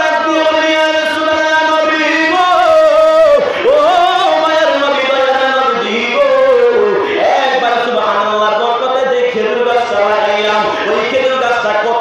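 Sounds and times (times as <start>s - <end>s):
man chanting: 0.0s - 12.0s.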